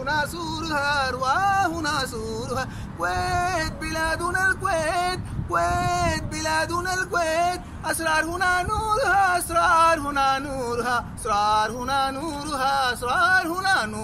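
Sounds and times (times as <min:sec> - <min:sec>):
man singing solo: 0:00.0 - 0:14.0.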